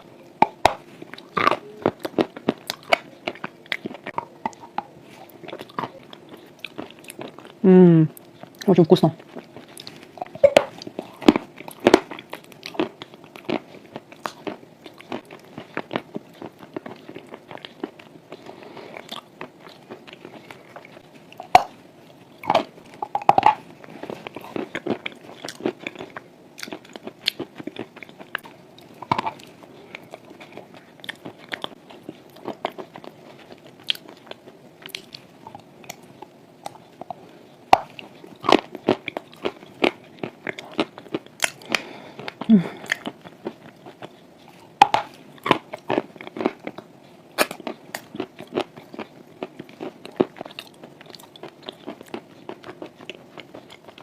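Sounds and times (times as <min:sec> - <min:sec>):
person chewing crunchy chalk: 0:00.4 - 0:07.6, 0:08.2 - 0:54.0.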